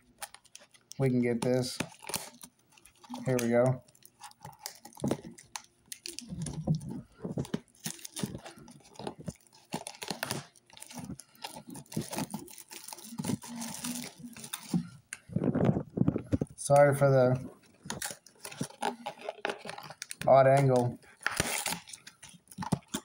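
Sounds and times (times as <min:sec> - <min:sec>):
plastic shrink wrap crinkling: 0:00.0 - 0:23.0.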